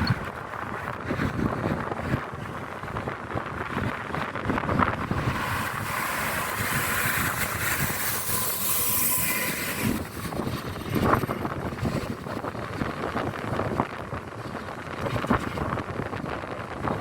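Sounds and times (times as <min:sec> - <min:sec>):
train wheel and rail noise: 0:00.0 - 0:17.0
wind buffeting microphone: 0:00.0 - 0:17.0.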